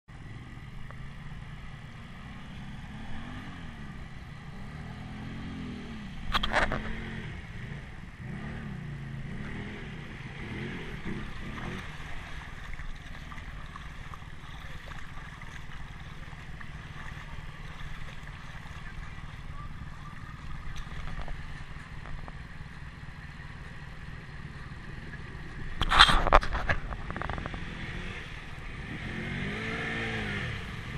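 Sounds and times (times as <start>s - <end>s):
atv engines running: 0.1s - 30.9s.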